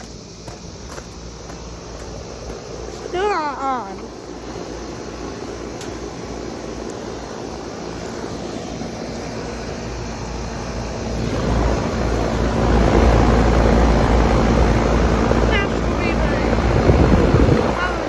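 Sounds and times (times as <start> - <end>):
air-conditioner unit humming: 0.0 - 18.0.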